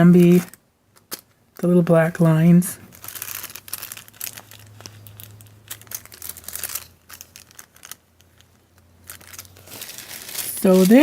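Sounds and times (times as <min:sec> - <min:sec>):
cellophane bags crinkling: 0:00.0 - 0:11.0.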